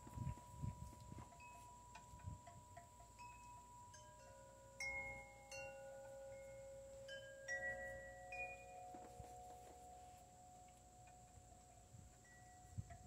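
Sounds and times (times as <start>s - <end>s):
wind chime ringing: 0.0s - 13.0s.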